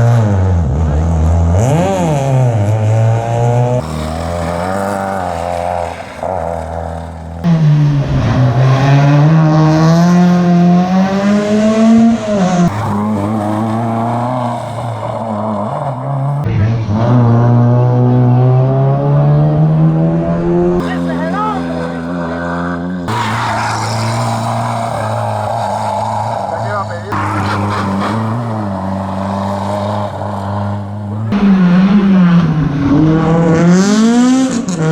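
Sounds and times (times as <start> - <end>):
rally car engines revving: 0.0 - 34.9.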